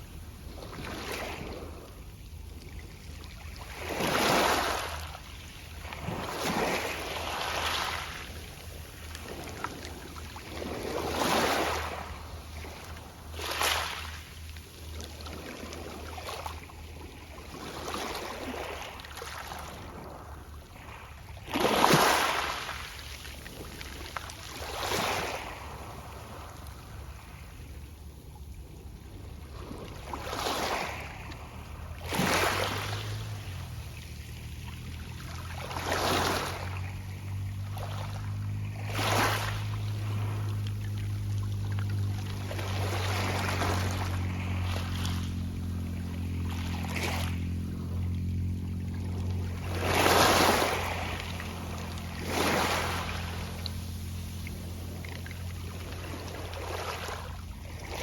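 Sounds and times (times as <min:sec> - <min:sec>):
small waves washing over pebbles: 0:00.0 - 0:58.0.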